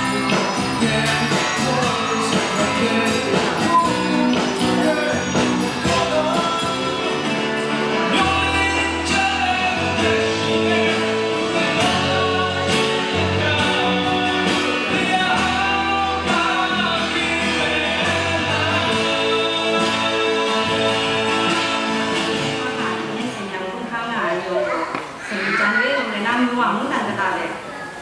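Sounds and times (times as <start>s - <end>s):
man singing: 0.0s - 22.7s
low bass notes: 0.0s - 23.4s
drums: 0.0s - 24.0s
acoustic guitar: 0.0s - 25.2s.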